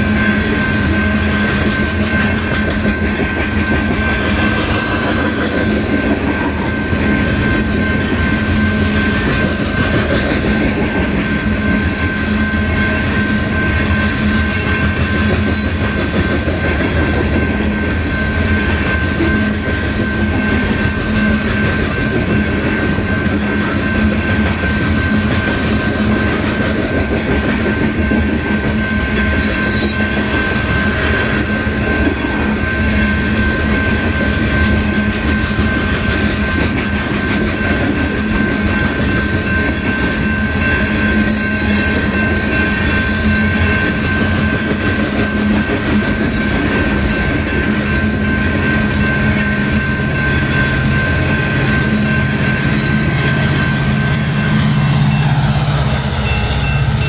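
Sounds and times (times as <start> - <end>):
diesel locomotive engine: 0.0 - 57.0
freight train wheels clattering: 0.0 - 57.0.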